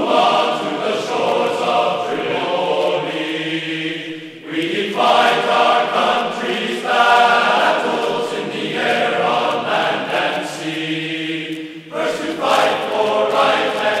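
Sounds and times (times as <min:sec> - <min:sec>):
choir-like singing: 0:00.0 - 0:14.0.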